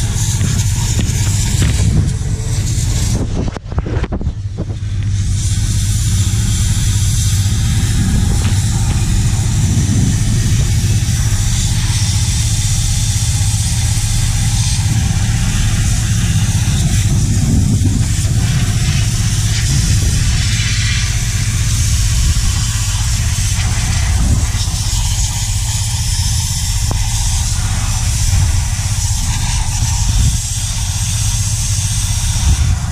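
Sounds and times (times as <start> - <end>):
high-pressure water jet hissing: 0.0 - 32.9
pressure washer motor hum: 0.0 - 32.9.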